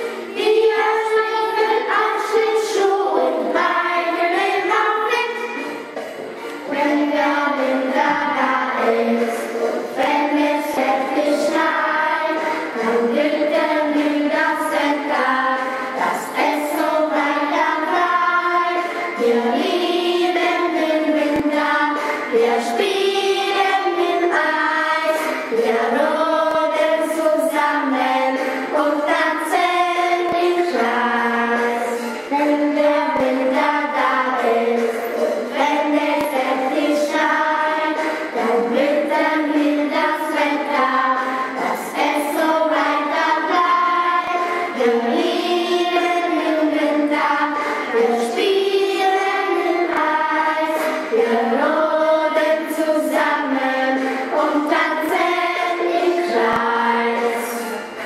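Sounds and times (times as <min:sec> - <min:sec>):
children singing together: 0:00.0 - 0:58.0.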